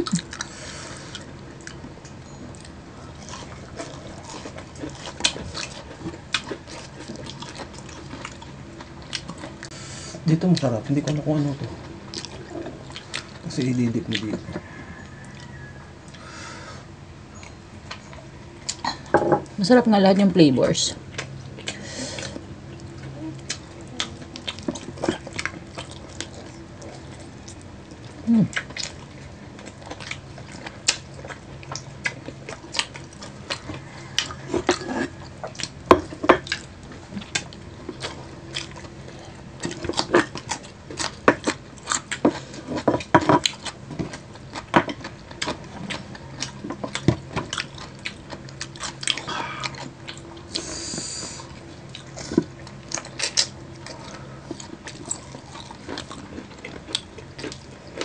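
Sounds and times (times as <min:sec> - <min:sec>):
chewing crispy fried food: 0:00.0 - 0:58.0.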